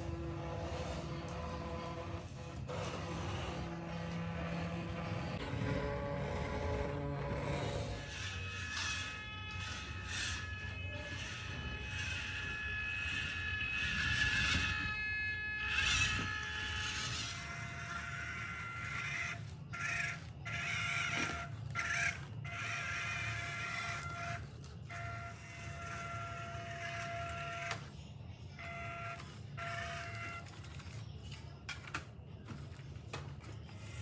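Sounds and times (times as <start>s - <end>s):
electric motor whining: 0.0s - 31.1s.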